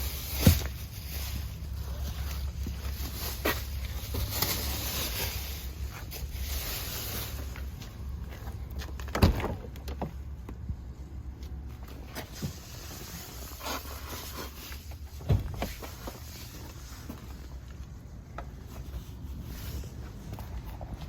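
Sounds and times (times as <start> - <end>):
handling knocks and rustles: 0.0 - 10.8, 11.4 - 21.0.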